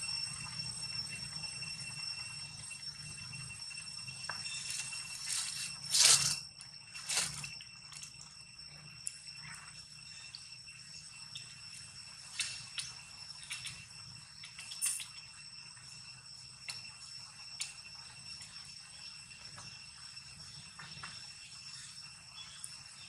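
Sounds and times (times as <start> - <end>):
forest insects droning: 0.0 - 23.0.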